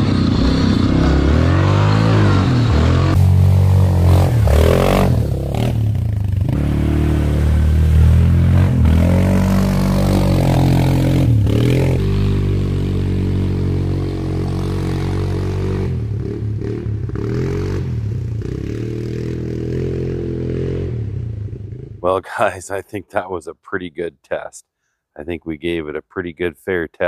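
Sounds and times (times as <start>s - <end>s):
atv engine revving under load: 0.0s - 22.0s.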